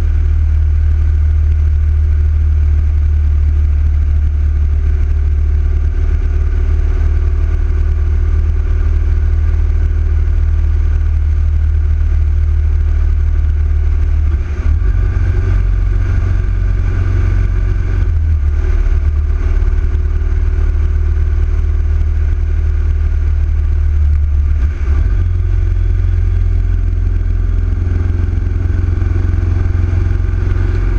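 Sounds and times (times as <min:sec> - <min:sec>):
motorcycle engine rumbling: 0:00.0 - 0:30.9.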